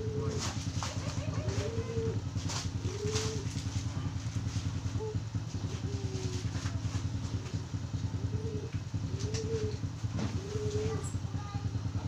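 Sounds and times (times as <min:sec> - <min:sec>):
doves cooing: 0:00.0 - 0:11.4
engine idling: 0:00.0 - 0:12.0.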